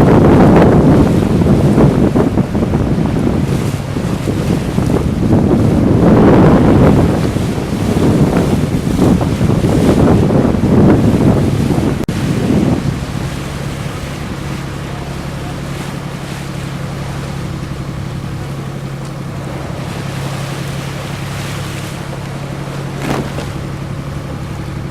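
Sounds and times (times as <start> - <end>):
boat engine humming: 0.0 - 24.9
water wash: 0.0 - 24.9
wind buffeting microphone: 0.0 - 24.9.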